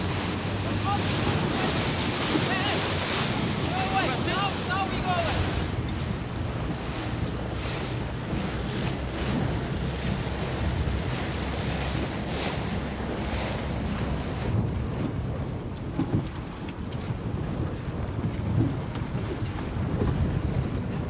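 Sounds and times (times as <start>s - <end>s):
water splashing around boats: 0.0s - 21.0s
wind buffeting microphone: 0.0s - 21.0s.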